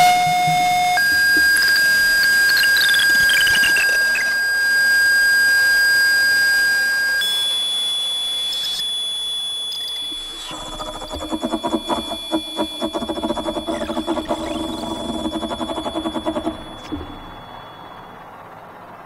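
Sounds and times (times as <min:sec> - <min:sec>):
falling electronic blips: 0:00.0 - 0:19.0
high electronic tone held: 0:00.0 - 0:19.0.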